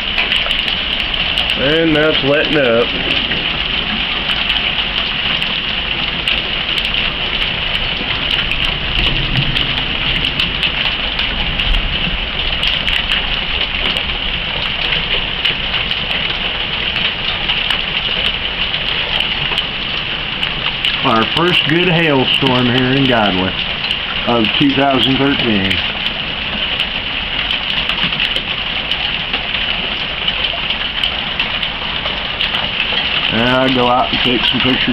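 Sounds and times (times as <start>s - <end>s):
hailstones ticking: 0.0s - 34.9s
rain pattering: 0.0s - 34.9s.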